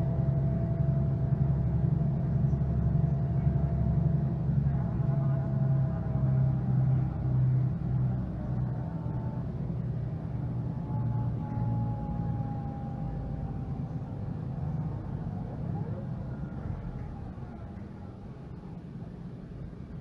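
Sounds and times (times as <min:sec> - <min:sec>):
diesel bus engine running: 0:00.0 - 0:20.0.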